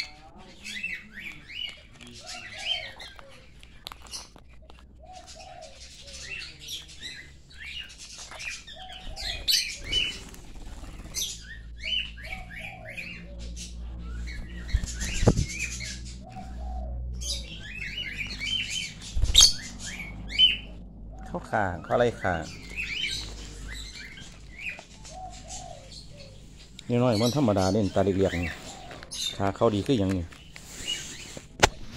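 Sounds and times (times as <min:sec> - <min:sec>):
parrots chirping: 0:00.0 - 0:31.6.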